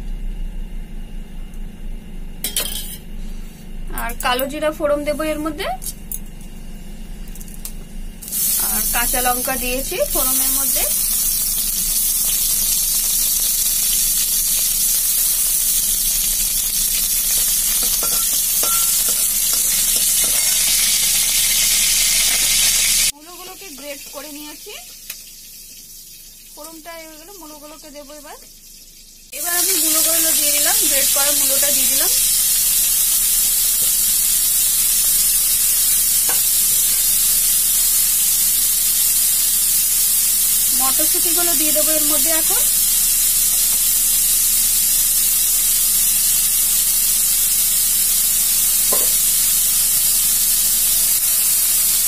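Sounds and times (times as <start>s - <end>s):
chillies sizzling in hot oil: 8.2s - 52.0s.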